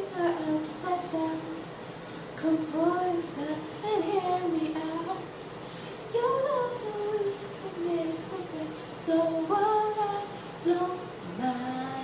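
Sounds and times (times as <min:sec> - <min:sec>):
girl singing unaccompanied: 0:00.0 - 0:01.8, 0:02.4 - 0:05.4, 0:06.1 - 0:12.0.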